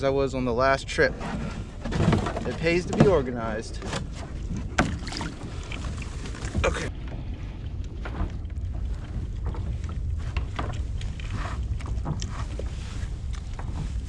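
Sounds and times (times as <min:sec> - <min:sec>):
wind rumbling on microphone: 0:00.0 - 0:14.0
water splashes: 0:02.5 - 0:14.0.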